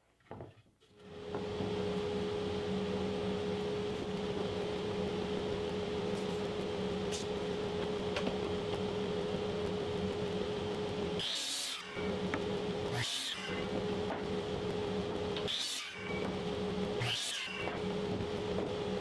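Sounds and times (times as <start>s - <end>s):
dust collector humming: 1.0s - 19.0s.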